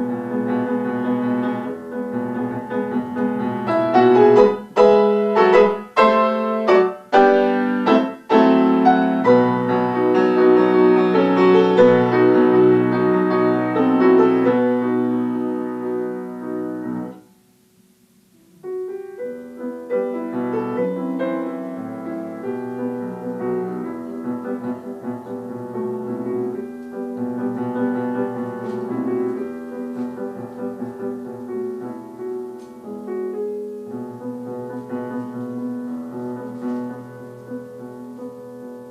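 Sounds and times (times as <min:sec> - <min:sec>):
solo grand piano: 0:00.0 - 0:38.9.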